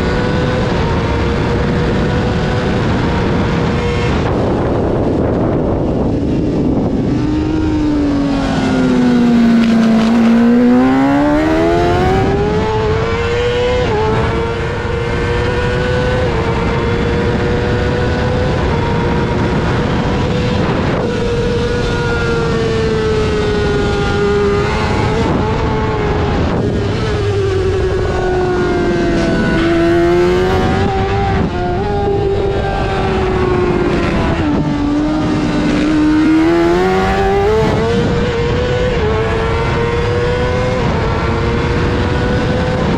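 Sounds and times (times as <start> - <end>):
motorcycle engine revving high: 0.0 - 42.9.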